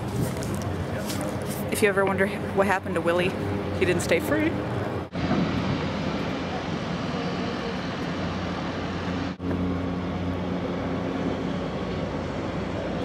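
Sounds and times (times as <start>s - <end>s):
floatplane engine droning: 0.0s - 13.0s.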